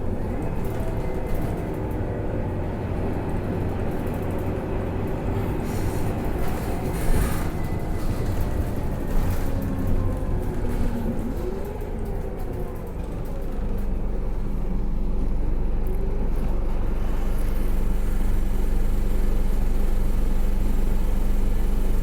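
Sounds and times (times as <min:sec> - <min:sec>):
bus engine running: 0:00.0 - 0:22.0
road and cabin noise: 0:00.0 - 0:22.0.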